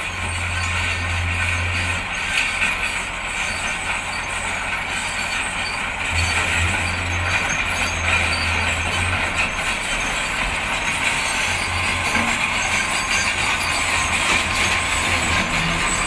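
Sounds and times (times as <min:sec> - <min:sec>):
heavy diesel machinery running: 0:00.0 - 0:16.0.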